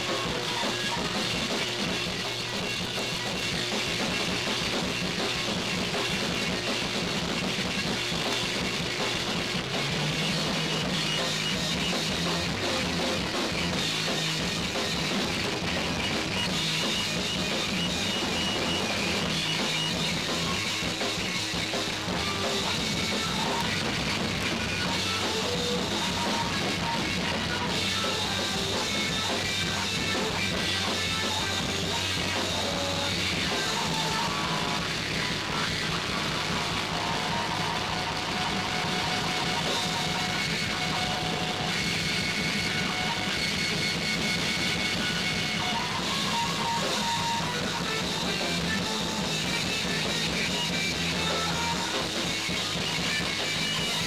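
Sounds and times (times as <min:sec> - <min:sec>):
distorted guitar: 0:00.0 - 0:54.0
drum kit: 0:00.0 - 0:54.0.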